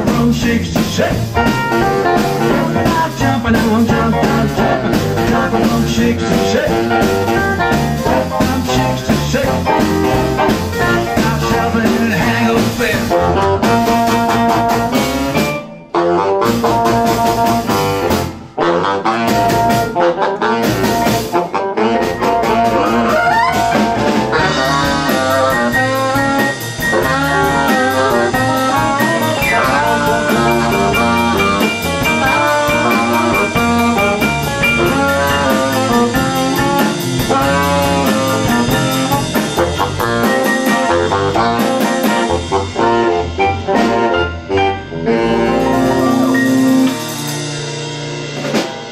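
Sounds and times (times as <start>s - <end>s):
baritone saxophone: 0.0s - 47.5s
swing band playing: 0.0s - 48.9s.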